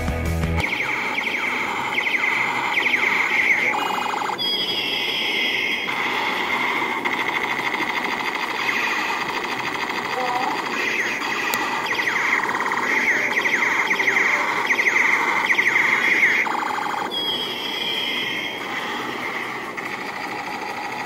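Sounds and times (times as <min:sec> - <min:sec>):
toy siren alarm effect: 0:00.6 - 0:21.0.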